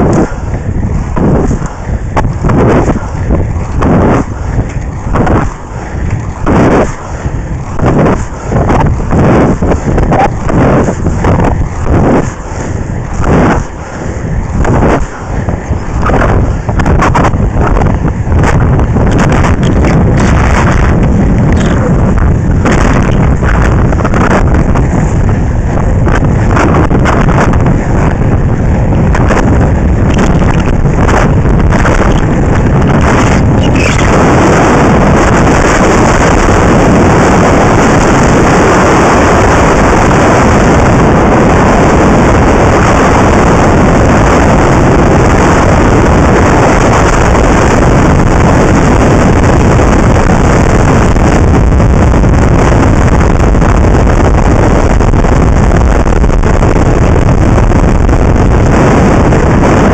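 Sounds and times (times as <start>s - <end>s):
skate wheels rolling on asphalt: 0.0s - 59.9s
wind buffeting microphone: 0.0s - 59.9s.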